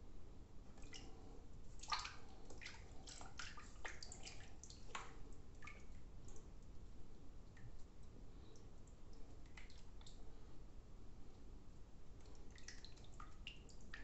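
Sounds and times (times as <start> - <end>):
water splashing and dripping in washbasin: 0.7 - 10.3, 12.2 - 14.0.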